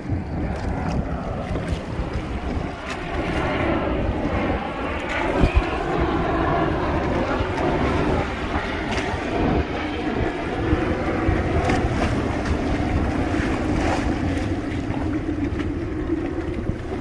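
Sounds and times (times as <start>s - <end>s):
sea splashing against hull: 0.0s - 17.0s
wind buffeting microphone: 0.0s - 17.0s.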